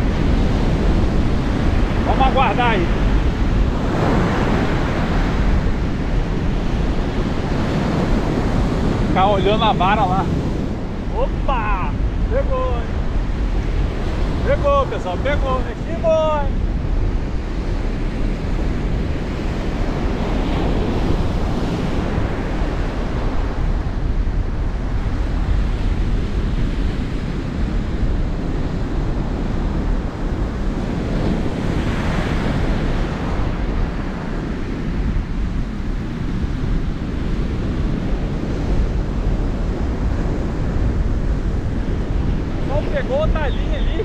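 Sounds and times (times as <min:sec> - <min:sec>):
ocean surf washing onto beach: 0:00.0 - 0:44.0
wind buffeting microphone: 0:00.0 - 0:44.0.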